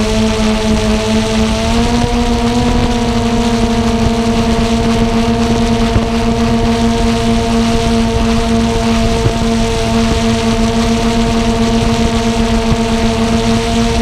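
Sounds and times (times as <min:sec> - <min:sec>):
drone propellers humming: 0:00.0 - 0:14.0.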